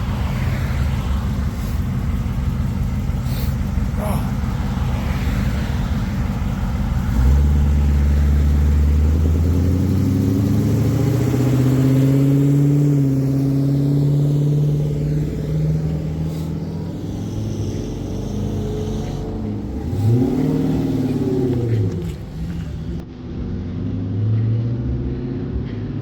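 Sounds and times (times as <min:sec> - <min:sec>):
car engine pulling away: 0:00.0 - 0:26.0.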